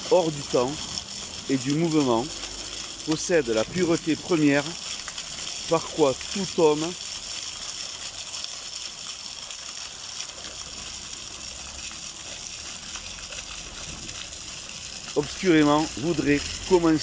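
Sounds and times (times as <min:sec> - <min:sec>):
water splashing on stone: 0:00.0 - 0:17.0.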